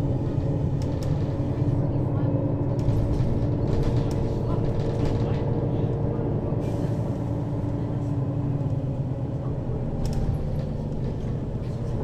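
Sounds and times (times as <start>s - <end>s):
bus engine and drivetrain drone: 0.0s - 12.0s.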